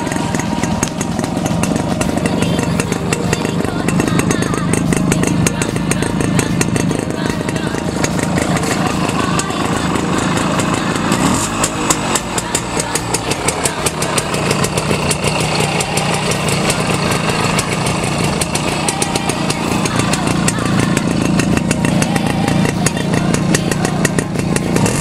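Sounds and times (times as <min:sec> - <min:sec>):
moped engine pulsing: 0:00.0 - 0:25.0.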